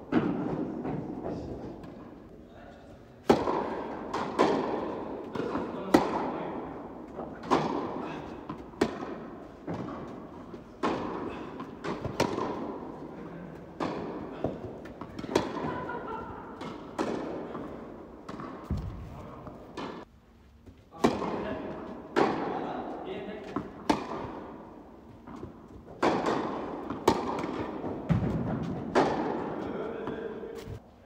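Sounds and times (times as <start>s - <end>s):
tennis balls bouncing on court: 0.0s - 2.2s, 3.2s - 30.8s
tennis balls struck by rackets: 0.0s - 2.2s, 3.2s - 20.1s, 20.9s - 30.8s.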